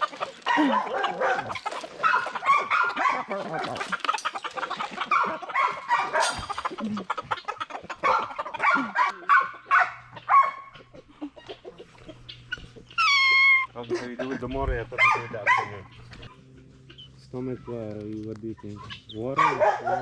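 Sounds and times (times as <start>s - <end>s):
chickens clucking and squawking: 0.0s - 20.0s.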